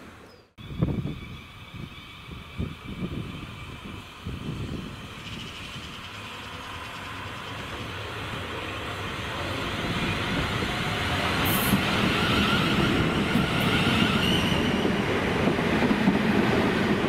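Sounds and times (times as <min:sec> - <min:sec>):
train approaching: 0:00.0 - 0:17.0.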